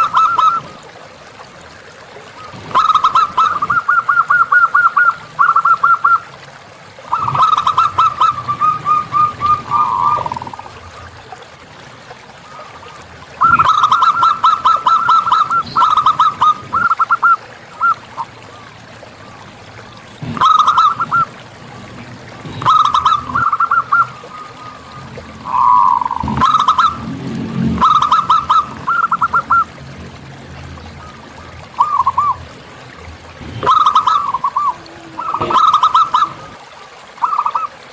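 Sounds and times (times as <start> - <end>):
dove cooing: 0.0 - 0.8, 2.4 - 6.3, 7.1 - 11.2, 12.4 - 18.6, 19.2 - 29.8, 31.0 - 32.6, 33.3 - 36.6.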